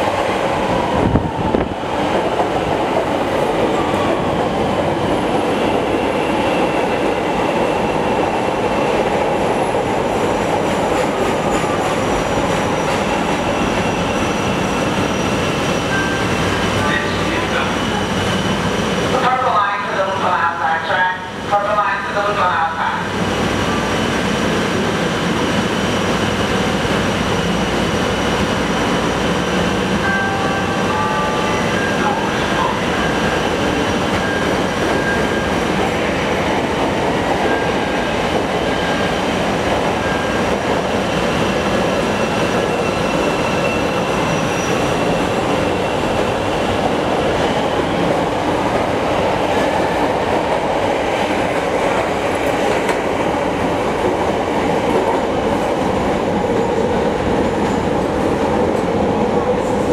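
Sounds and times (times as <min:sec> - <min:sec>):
train running: 0:00.0 - 0:59.9.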